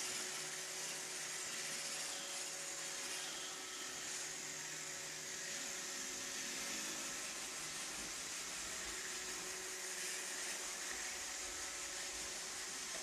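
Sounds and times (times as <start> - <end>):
robot vacuum hissing: 0.0 - 13.0.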